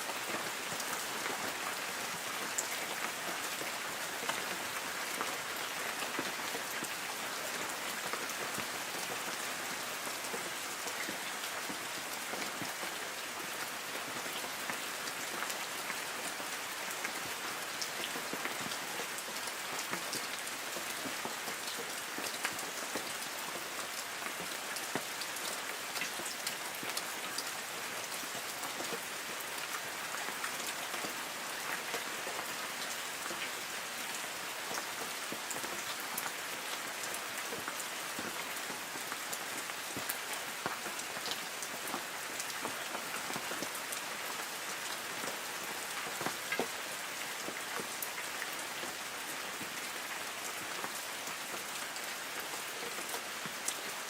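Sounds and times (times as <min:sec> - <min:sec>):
light rain on leaves: 0:00.0 - 0:54.0.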